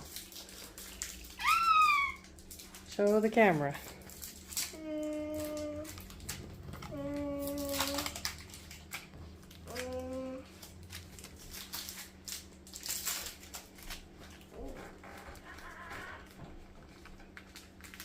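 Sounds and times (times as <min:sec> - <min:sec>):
wrapper crinkling and tearing: 0:00.0 - 0:18.0.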